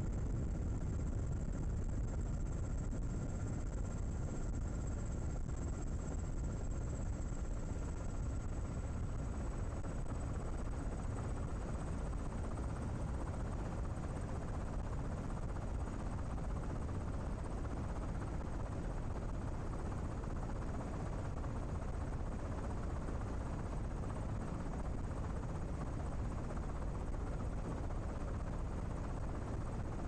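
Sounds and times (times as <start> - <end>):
faint high whine: 0.0 - 30.0
helicopter rumble: 0.0 - 30.0.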